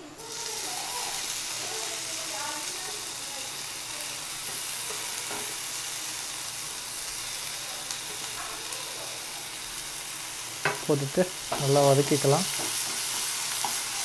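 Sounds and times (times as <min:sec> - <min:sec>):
onions and tomato sizzling in oil: 0:00.0 - 0:14.0.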